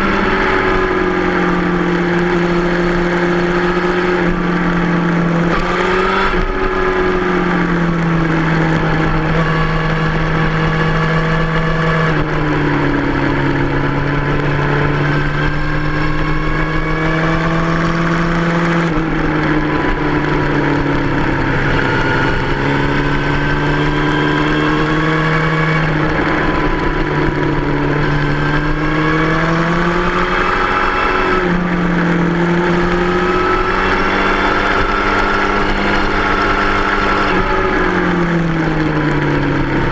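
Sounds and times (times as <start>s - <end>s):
motorcycle engine revving: 0.0s - 39.9s
wind rush: 4.1s - 39.9s.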